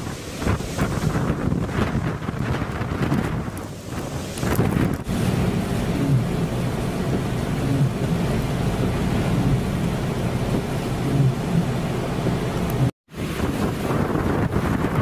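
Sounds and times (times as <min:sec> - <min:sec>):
rain: 0:00.0 - 0:15.0
wind buffeting microphone: 0:00.0 - 0:15.0.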